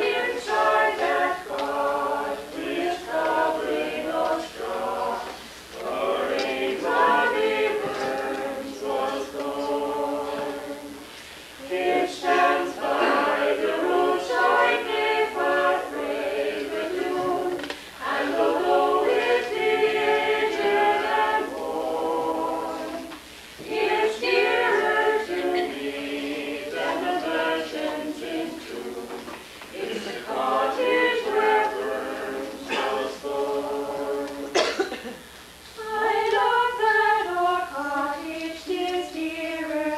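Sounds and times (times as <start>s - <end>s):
group singing together: 0.0s - 35.2s, 35.8s - 39.9s.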